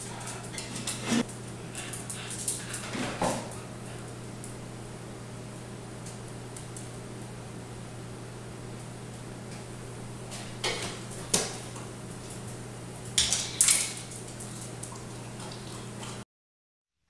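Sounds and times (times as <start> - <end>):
low electrical hum: 0.0 - 16.2.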